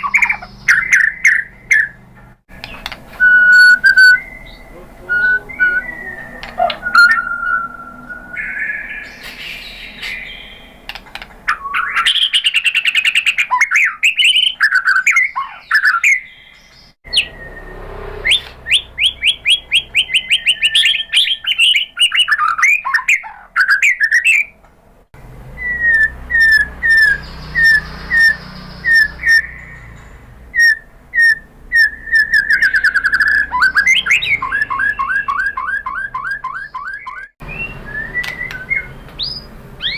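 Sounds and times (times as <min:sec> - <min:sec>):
songbird singing whistled phrases: 0:00.0 - 0:02.0, 0:02.6 - 0:10.7, 0:11.5 - 0:24.6, 0:25.6 - 0:39.9.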